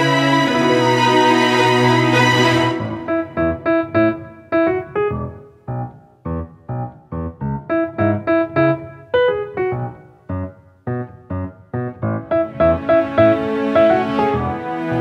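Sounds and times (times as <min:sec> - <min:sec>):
piano single notes: 0:00.0 - 0:15.0.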